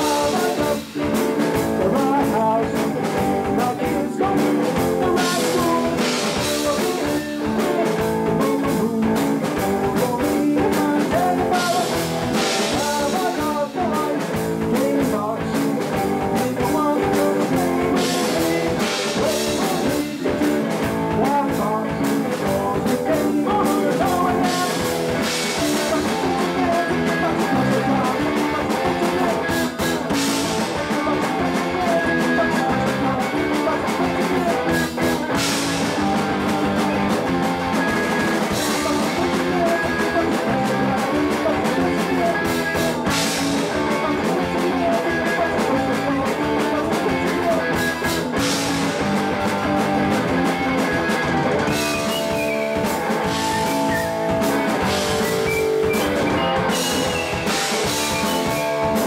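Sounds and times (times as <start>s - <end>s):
person singing: 0.0s - 59.0s
punk rock band playing live: 0.0s - 59.0s.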